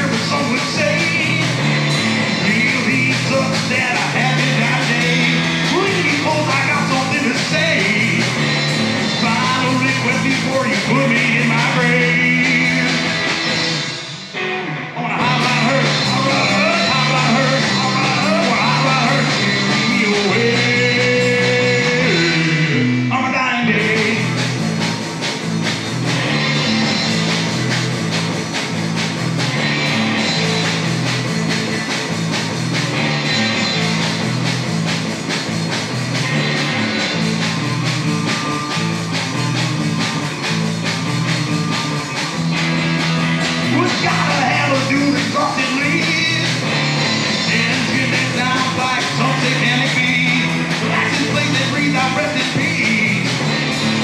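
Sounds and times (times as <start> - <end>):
driving bass line: 0.0 - 54.0
drum kit: 0.0 - 54.0
electric guitar: 0.0 - 54.0.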